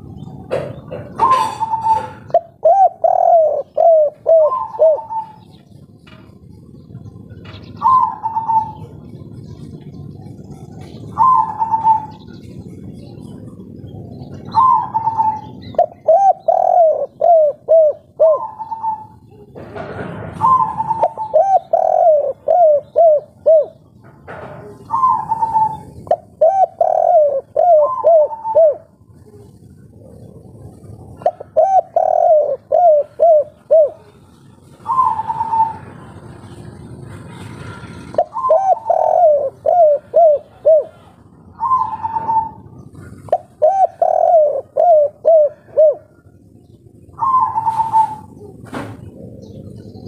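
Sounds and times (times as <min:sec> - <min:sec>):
dove cooing: 0:00.0 - 0:36.9, 0:37.6 - 0:50.0.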